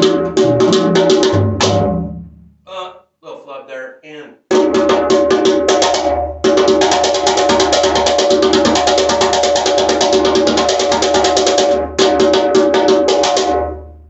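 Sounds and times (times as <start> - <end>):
djembe drum roll by hand: 0.0 - 2.2, 4.5 - 13.8.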